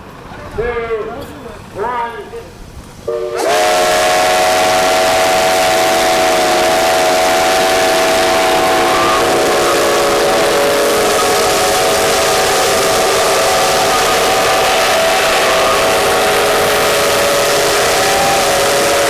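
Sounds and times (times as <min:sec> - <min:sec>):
steam hissing: 0:02.7 - 0:19.0
steam whistles blowing chord: 0:03.1 - 0:19.0.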